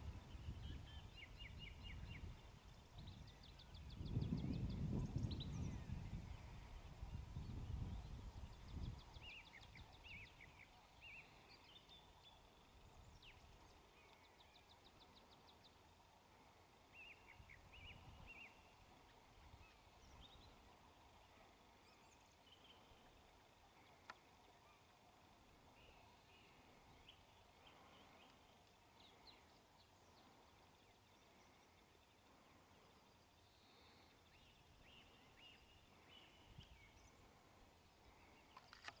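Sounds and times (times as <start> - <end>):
small birds chirping and trilling: 0.0 - 39.0.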